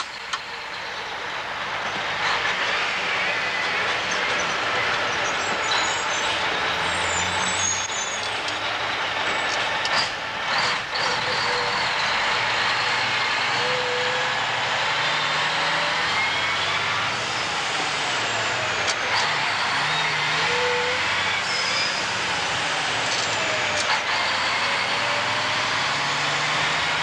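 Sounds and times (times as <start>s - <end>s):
diesel truck engine running: 0.0s - 27.0s
road noise: 0.0s - 27.0s.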